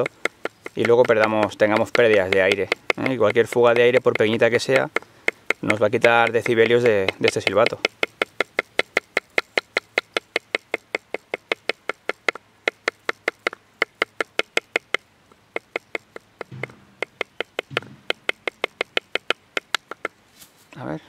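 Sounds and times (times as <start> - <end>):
wooden stick tapping on branch: 0.0 - 20.2.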